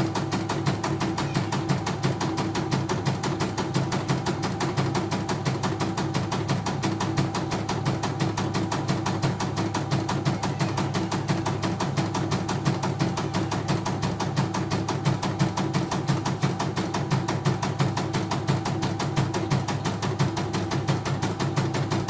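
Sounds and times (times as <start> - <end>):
embroidery machine needle beating: 0.0 - 22.0
steady motor hum: 0.0 - 22.0.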